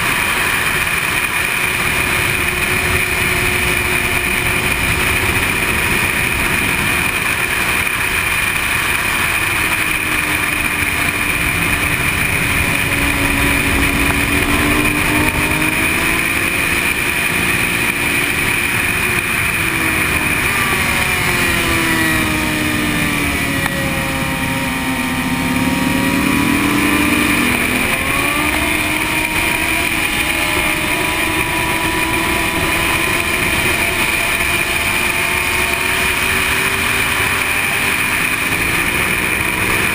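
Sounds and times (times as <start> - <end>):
wind rush: 0.0 - 37.4
motorcycle engine: 0.0 - 39.9.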